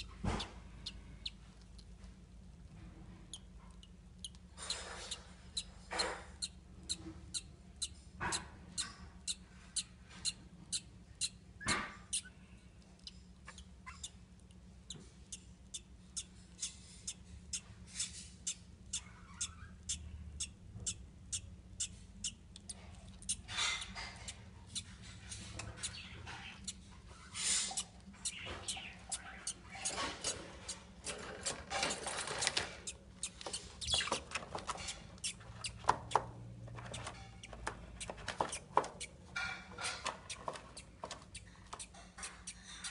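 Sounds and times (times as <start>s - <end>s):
bird chick peeping: 0.0s - 1.5s, 3.3s - 42.9s.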